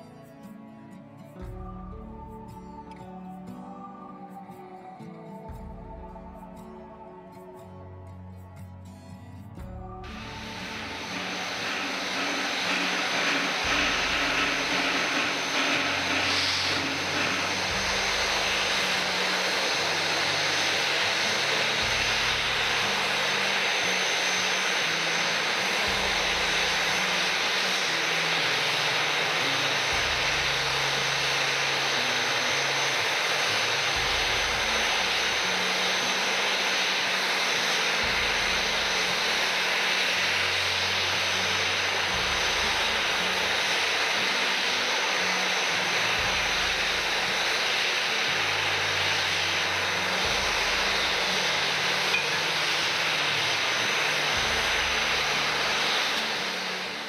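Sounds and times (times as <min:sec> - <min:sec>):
slow synth music: 0:00.0 - 0:57.0.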